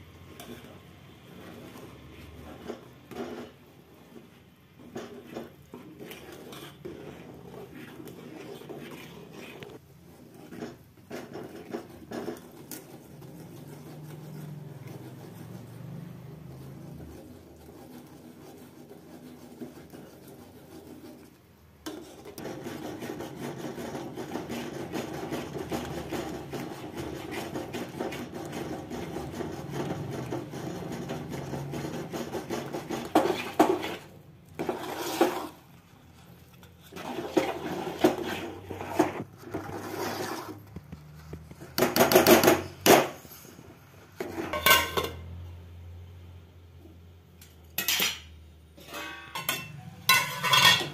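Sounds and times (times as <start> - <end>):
spoon scraping a metal pot: 0.3 - 41.1, 44.2 - 45.4, 47.8 - 50.9.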